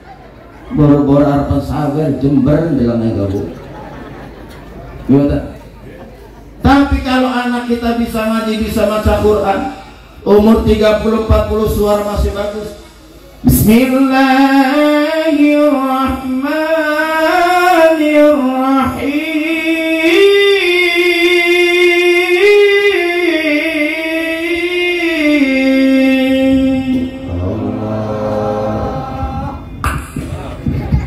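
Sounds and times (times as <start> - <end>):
man chanting through microphone: 0.6 - 3.6, 6.6 - 31.0.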